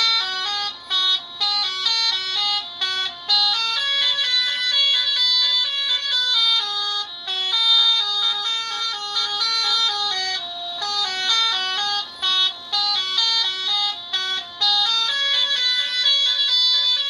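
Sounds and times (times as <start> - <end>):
multi-tone horn melody: 0.0 - 17.0.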